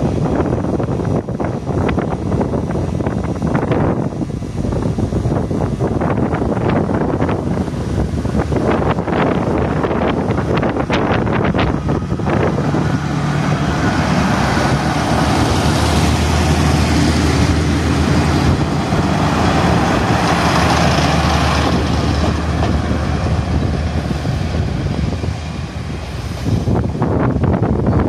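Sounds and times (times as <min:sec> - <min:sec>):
diesel engine droning: 0:00.0 - 0:28.0
wheels rumbling on rails: 0:00.0 - 0:28.0.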